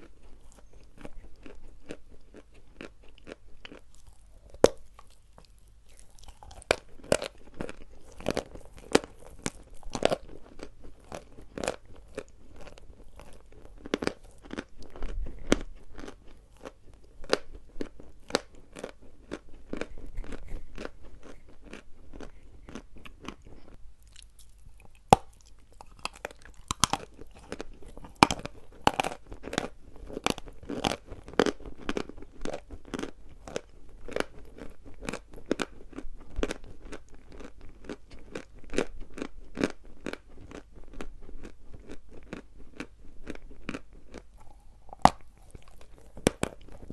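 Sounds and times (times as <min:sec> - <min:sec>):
chalk crunching being chewed: 0:00.0 - 0:46.9.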